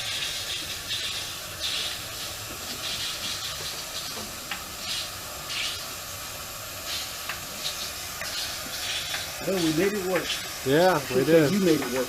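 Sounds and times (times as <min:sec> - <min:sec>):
water and air hissing through pipes: 0:00.0 - 0:12.0.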